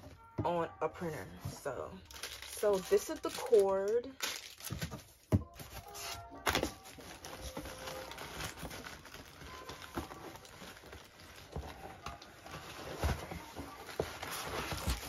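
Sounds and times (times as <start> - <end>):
cardboard packaging rustling: 1.4 - 15.0.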